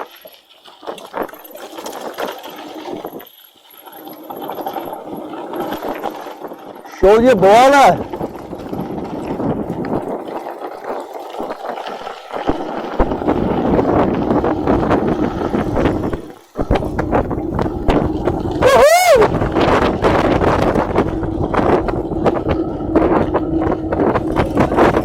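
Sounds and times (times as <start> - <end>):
mountain bike rattling: 0.0 - 25.0
wind buffeting microphone: 3.9 - 25.0.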